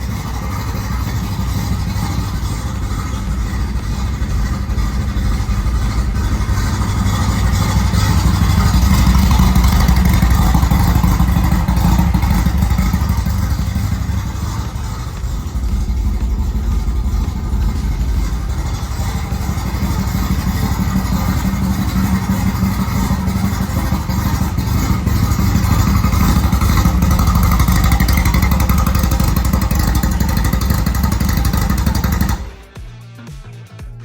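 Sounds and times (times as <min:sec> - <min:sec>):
car engine running: 0:00.0 - 0:32.8.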